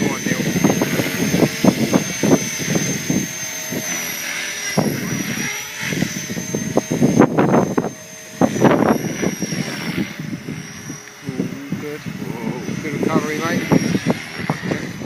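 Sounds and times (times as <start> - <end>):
wind buffeting microphone: 0.0 - 4.0, 4.6 - 15.0
rc helicopter whine: 0.0 - 15.0.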